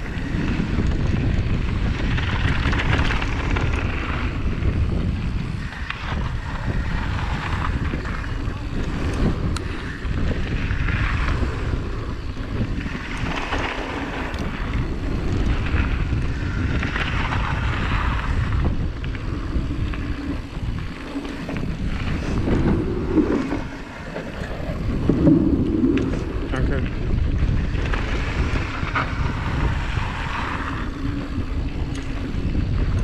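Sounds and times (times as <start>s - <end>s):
bike tyres rolling on dirt: 0.0s - 33.0s
wind rushing over microphone: 0.0s - 33.0s.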